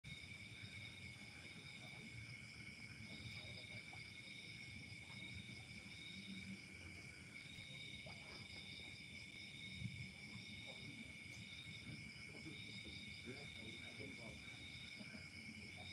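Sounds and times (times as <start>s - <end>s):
crickets trilling: 0.1s - 15.9s.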